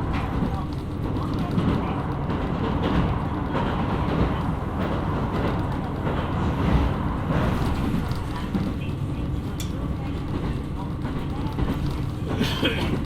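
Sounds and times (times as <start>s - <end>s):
railcar engine and wheels rumbling: 0.0s - 13.0s.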